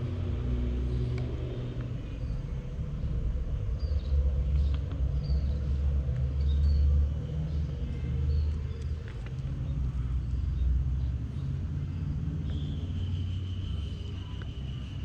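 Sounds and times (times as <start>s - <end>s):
low choppy rumble: 0.0s - 15.0s.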